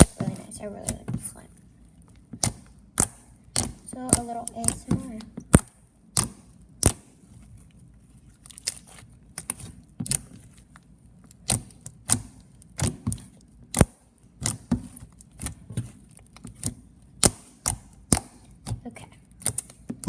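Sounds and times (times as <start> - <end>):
slime squished making pops and clicks: 2.0 - 7.3, 8.4 - 20.0.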